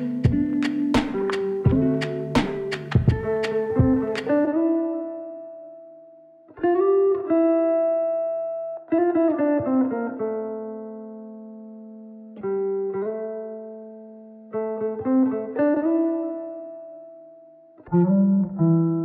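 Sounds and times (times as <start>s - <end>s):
solo guitar playing: 0.0s - 19.0s.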